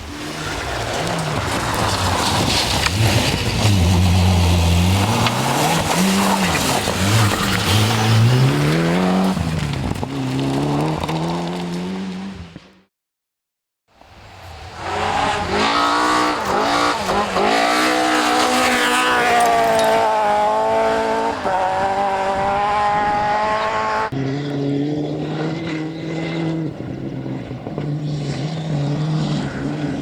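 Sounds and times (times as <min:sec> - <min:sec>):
tyre and road noise: 0:00.0 - 0:12.8, 0:14.0 - 0:30.0
rally car engine at full throttle: 0:00.0 - 0:12.9, 0:14.2 - 0:30.0.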